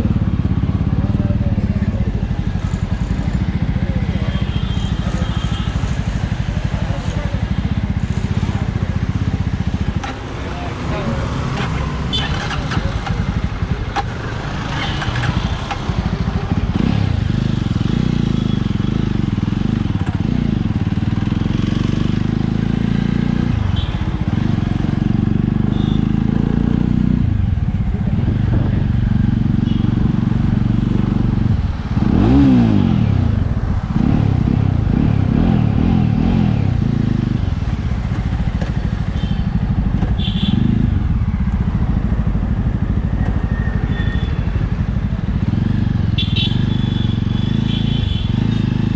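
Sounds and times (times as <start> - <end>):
motorcycle engine revving through gears: 1.8 - 48.9.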